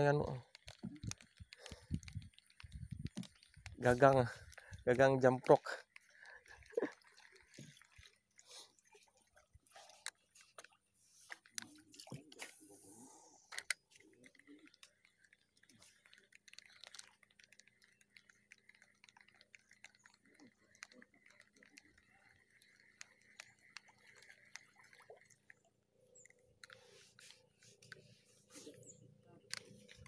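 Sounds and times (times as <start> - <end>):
fishing tackle clicking: 0.4 - 8.2, 10.0 - 28.1, 28.8 - 30.0.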